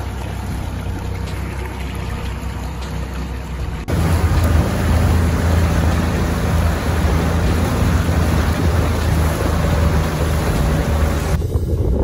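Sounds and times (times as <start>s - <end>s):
outboard motor drone: 0.0s - 11.4s
water rushing along boat hull: 0.0s - 11.5s.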